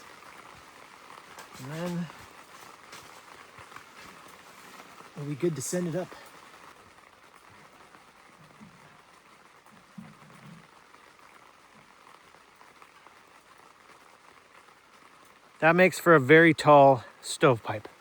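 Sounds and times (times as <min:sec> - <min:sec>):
rain on tent fabric: 0:00.0 - 0:18.0.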